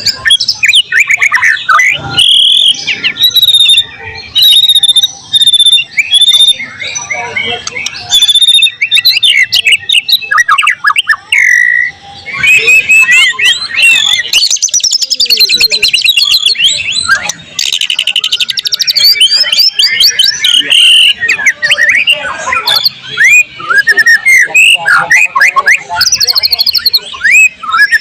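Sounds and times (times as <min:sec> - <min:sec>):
songbird singing whistled chirps: 0:00.0 - 0:28.0.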